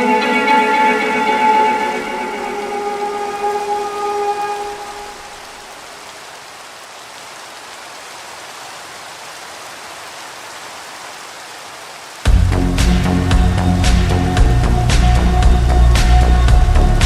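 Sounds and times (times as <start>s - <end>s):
steady rain patter: 0.0s - 17.0s.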